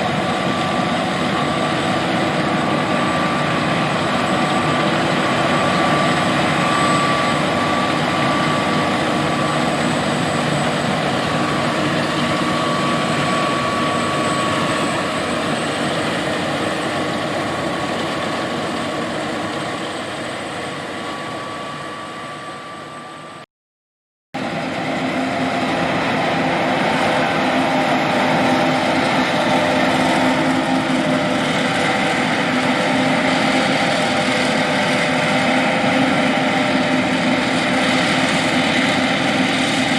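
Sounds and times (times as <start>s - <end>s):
combine harvester running: 0.0s - 23.4s, 24.4s - 39.9s
thin machine whine: 0.0s - 23.5s, 24.4s - 39.9s.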